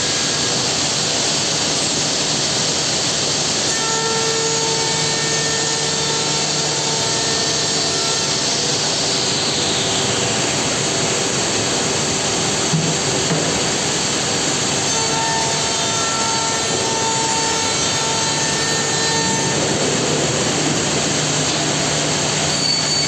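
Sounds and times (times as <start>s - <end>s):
woodworking machine cutting: 0.0s - 23.0s.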